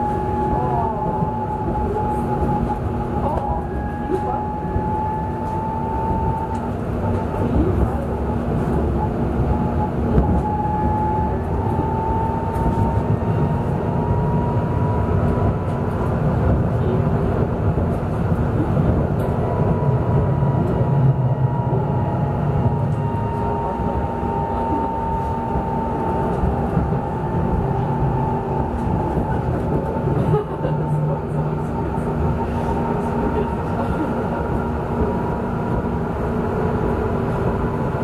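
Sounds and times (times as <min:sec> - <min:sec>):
wheels rumbling on track: 0:00.0 - 0:38.0.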